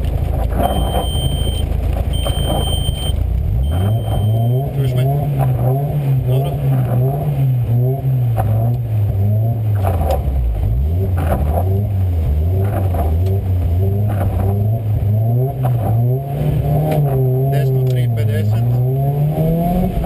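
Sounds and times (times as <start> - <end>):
car engine revving while stationary: 0.0 - 20.0.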